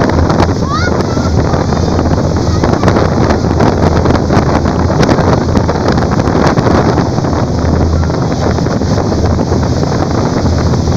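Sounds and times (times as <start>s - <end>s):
churning wake rushing: 0.0s - 10.9s
low steady rumble: 0.0s - 10.9s
wind blasting microphone: 0.0s - 10.9s.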